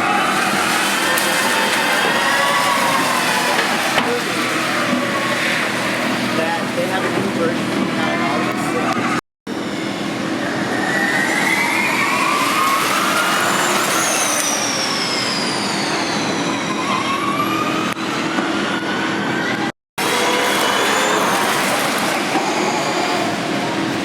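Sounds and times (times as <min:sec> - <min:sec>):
electric race cars whining past: 0:00.0 - 0:24.0.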